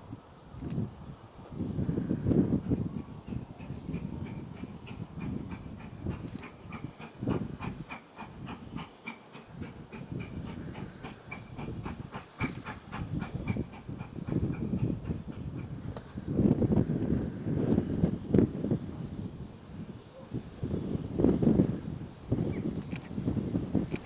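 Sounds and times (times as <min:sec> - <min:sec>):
steam locomotive running: 0:00.2 - 0:24.0.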